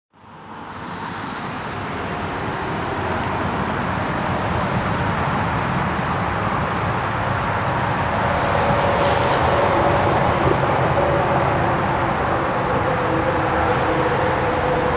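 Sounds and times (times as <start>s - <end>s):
heavy highway traffic rushing: 0.2s - 14.9s.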